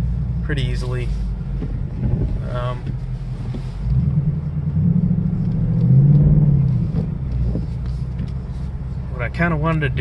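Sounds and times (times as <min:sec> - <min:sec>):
car engine under light throttle: 0:00.0 - 0:10.0.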